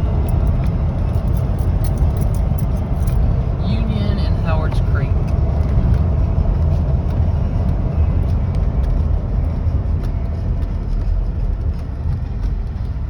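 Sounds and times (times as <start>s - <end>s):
road and engine rumble in cabin: 0.0s - 13.0s.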